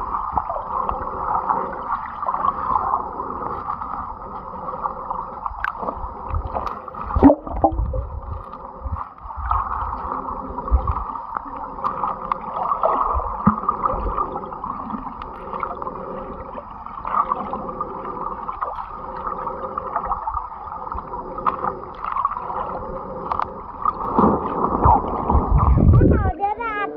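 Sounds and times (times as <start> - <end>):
muffled underwater rushing water: 0.0 - 26.9
low rumble: 2.3 - 18.1, 19.1 - 26.4.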